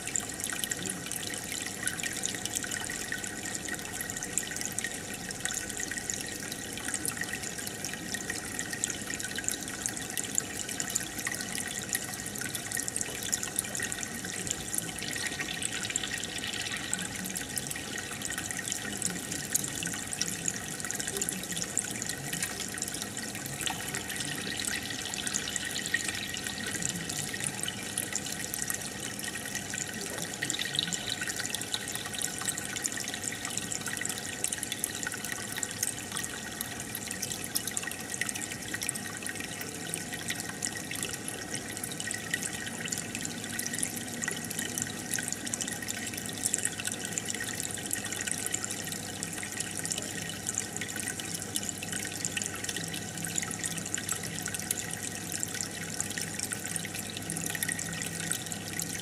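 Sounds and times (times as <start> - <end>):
small drips and splashes: 0.0 - 59.0
water trickling and bubbling: 0.0 - 59.0.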